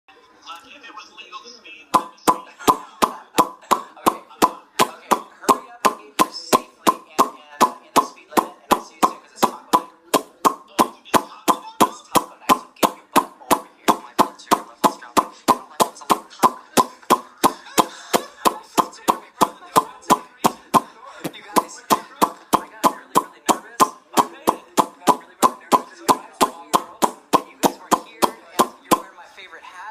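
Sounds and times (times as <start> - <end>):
person popping lips: 1.9 - 29.1.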